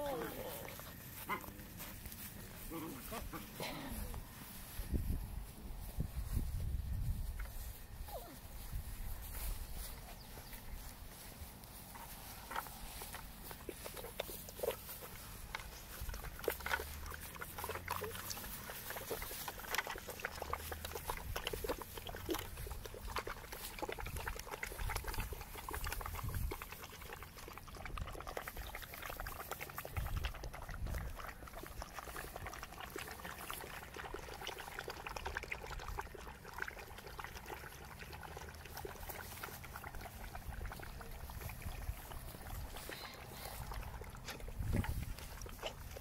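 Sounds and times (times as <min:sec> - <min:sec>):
puppies lapping water: 0:00.0 - 0:46.0.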